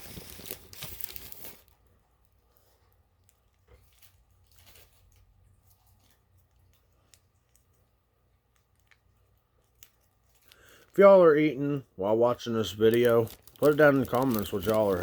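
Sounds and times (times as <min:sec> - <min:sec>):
soft handling rustles: 0:00.0 - 0:11.6, 0:12.5 - 0:15.0
low room hum: 0:00.0 - 0:15.0.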